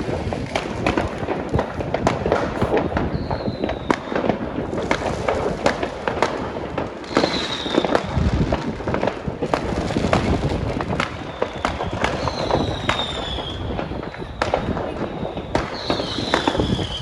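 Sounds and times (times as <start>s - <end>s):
fireworks crackling and banging: 0.0s - 17.0s
fireworks falling whistles: 0.0s - 17.0s.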